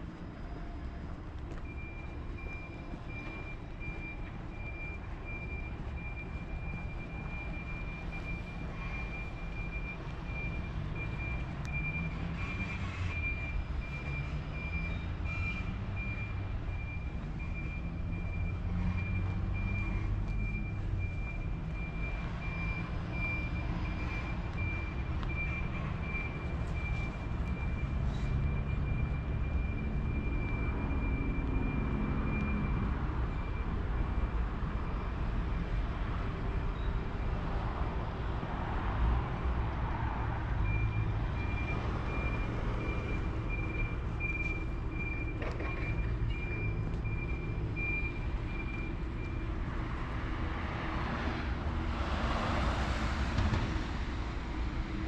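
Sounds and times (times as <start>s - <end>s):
reversing alarm beeping: 0.2s - 37.6s, 40.6s - 50.0s.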